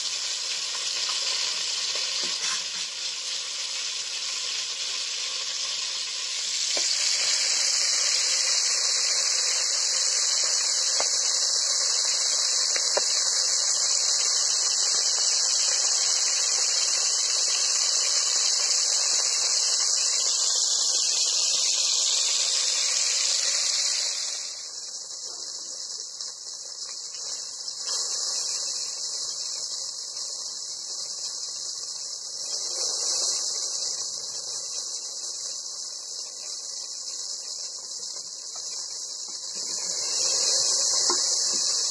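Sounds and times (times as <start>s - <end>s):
chicken frying in oil: 0.0s - 41.9s.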